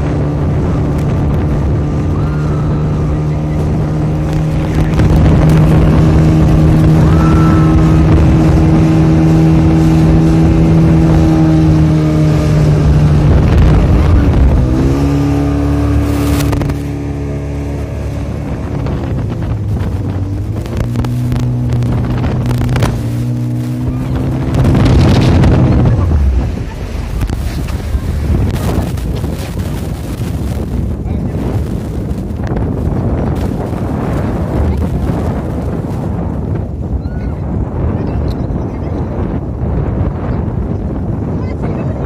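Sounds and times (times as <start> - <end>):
motorboat engine running: 0.0 - 42.0.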